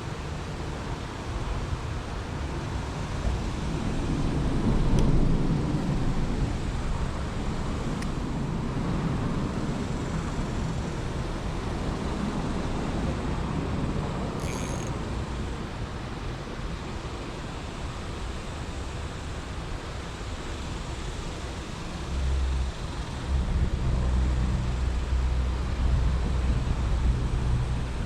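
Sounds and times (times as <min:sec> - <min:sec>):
road traffic rumble and hiss: 0:00.0 - 0:28.0.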